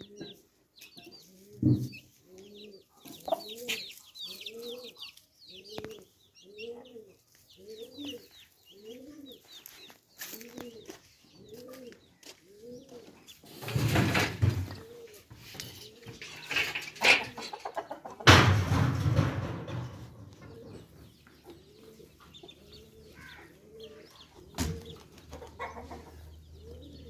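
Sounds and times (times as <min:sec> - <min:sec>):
hens clucking: 0:00.0 - 0:27.0.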